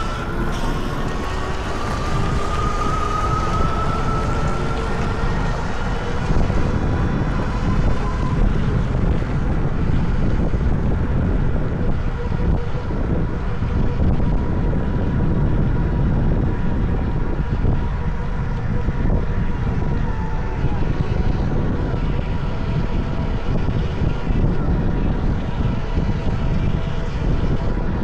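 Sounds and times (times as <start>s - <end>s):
faint steady whine: 0.0s - 28.0s
wind rushing over microphone: 0.0s - 28.0s.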